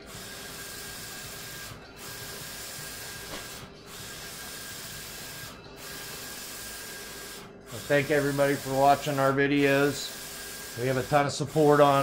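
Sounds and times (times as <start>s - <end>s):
printer carriage sweeping with hiss: 0.0s - 12.0s.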